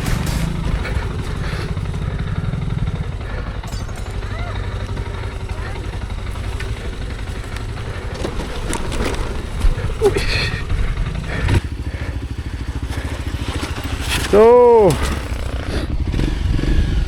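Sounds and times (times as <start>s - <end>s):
bike knocking and clattering: 0.0s - 16.3s
motorcycle engine running: 0.0s - 17.0s.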